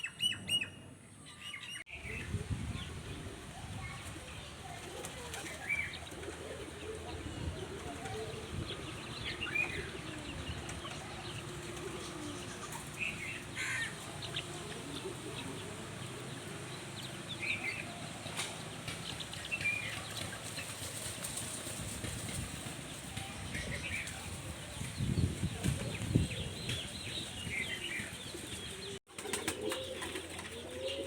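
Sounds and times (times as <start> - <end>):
small birds chirping: 0.0 - 31.0
chickens clucking: 3.4 - 31.0.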